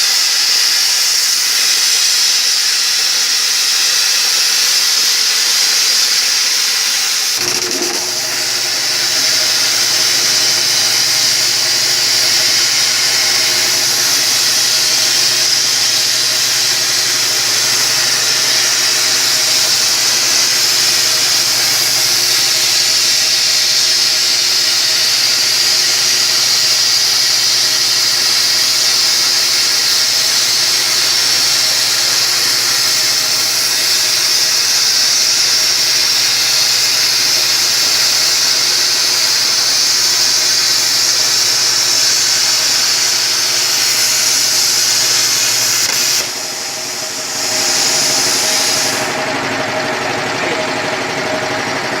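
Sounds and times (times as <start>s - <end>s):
plasma cutter hissing: 0.0s - 49.6s.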